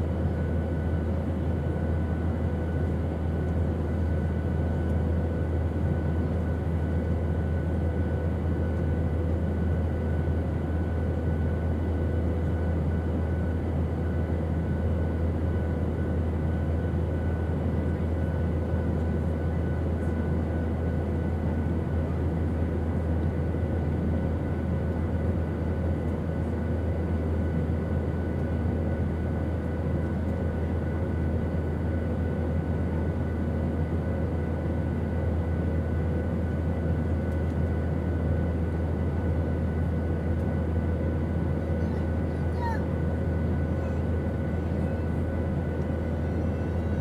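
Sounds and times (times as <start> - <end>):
airplane engine drone: 0.0 - 47.0.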